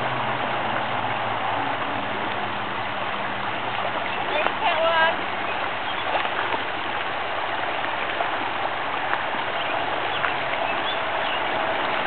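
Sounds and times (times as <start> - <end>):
creek rippling over rocks: 0.0 - 12.0
dogs splashing in water: 0.0 - 12.0.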